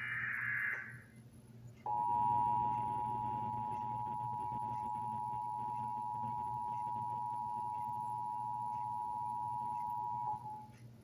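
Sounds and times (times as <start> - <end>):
two-tone alarm signal: 0.0 - 1.0, 1.9 - 10.7.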